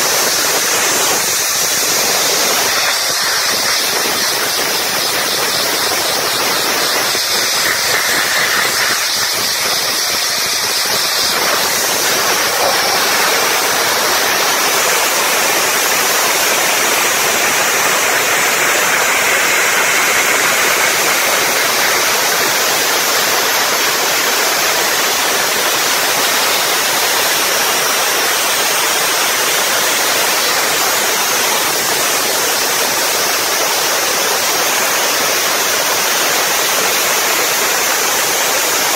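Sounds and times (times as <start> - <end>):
high-pressure water jet hissing: 0.0 - 38.9.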